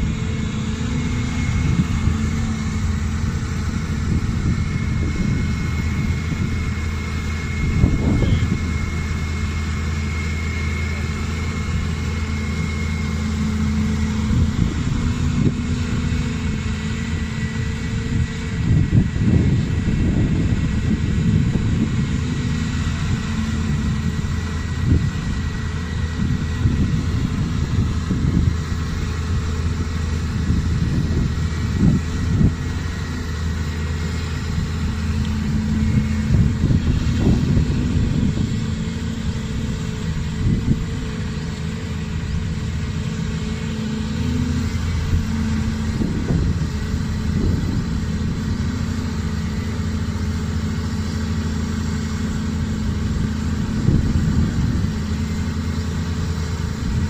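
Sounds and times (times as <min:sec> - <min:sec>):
excavator diesel engine working: 0:00.0 - 0:57.0.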